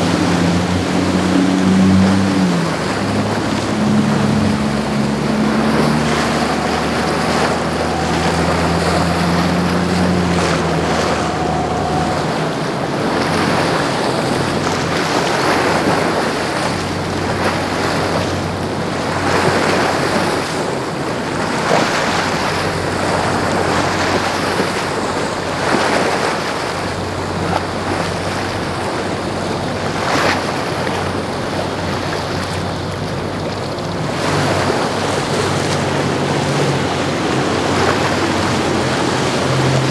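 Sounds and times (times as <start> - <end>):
boat engines humming: 0.0 - 39.9
faint low engine hum: 0.0 - 39.9
waves and wake washing: 0.0 - 39.9
wind buffeting microphone: 0.0 - 39.9.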